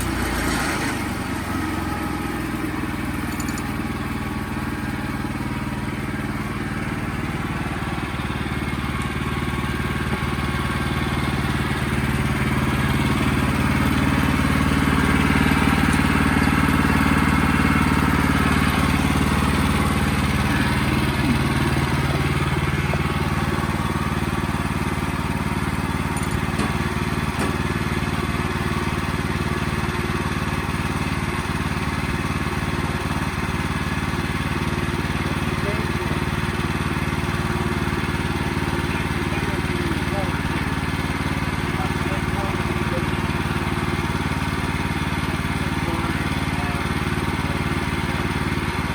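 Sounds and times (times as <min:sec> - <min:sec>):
band sawmill running: 0:00.0 - 0:48.9.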